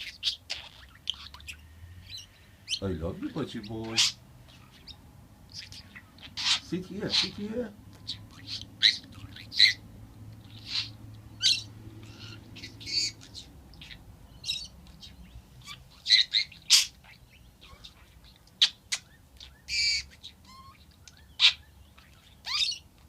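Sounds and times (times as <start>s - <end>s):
budgerigar chirping: 0.0s - 23.0s.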